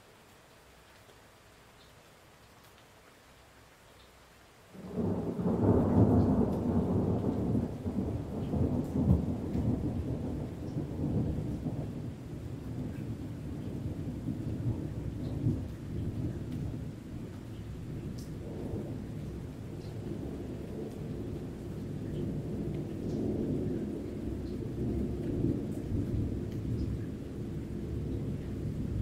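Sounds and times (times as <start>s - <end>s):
light rain dripping: 0.0s - 29.0s
thunder rumbling: 4.8s - 29.0s.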